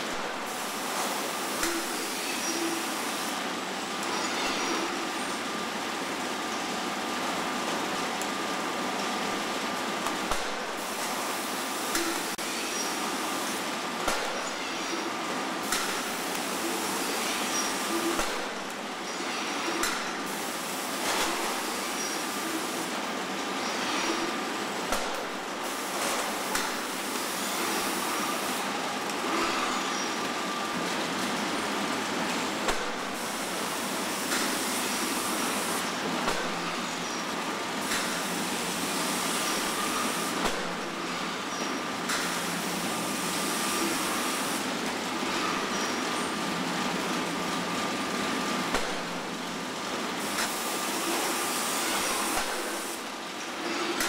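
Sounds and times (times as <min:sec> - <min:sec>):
robot arm and conveyor running: 0:00.0 - 0:54.0.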